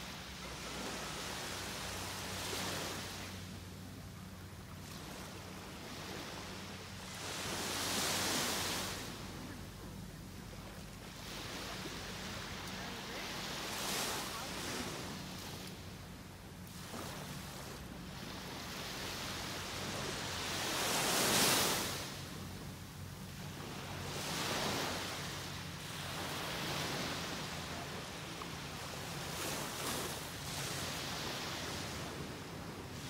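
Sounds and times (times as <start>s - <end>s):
small waves breaking on sand: 0.0s - 33.0s.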